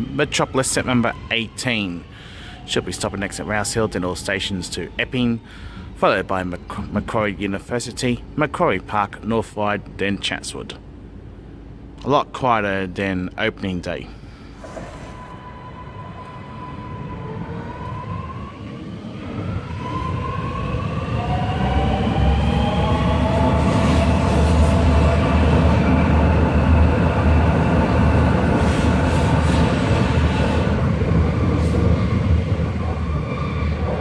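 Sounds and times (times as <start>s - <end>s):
metro train motors whining: 0.0s - 12.0s, 14.1s - 34.0s.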